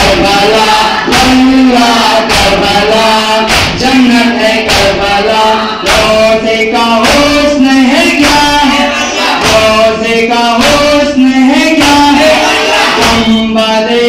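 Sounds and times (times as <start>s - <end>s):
steady beat of sharp strikes: 0.0s - 13.6s
voices singing a lament: 0.0s - 14.0s.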